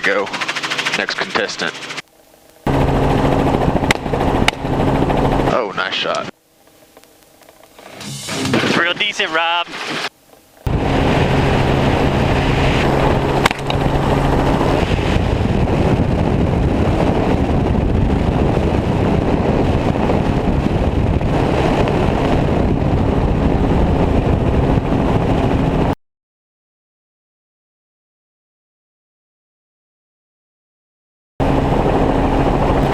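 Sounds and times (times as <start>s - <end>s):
helicopter engine and rotor: 0.0s - 8.0s, 8.7s - 25.9s, 31.4s - 32.9s.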